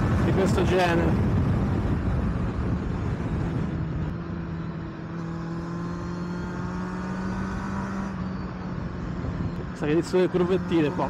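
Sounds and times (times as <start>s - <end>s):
heavy wind noise: 0.0s - 11.0s
motorcycle engine running: 0.0s - 11.0s.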